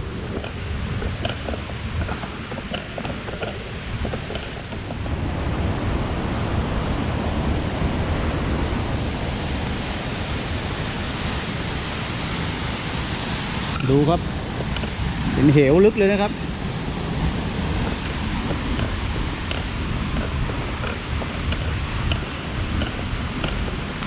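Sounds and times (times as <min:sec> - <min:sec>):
waterfall and rapids rushing: 0:00.0 - 0:24.0.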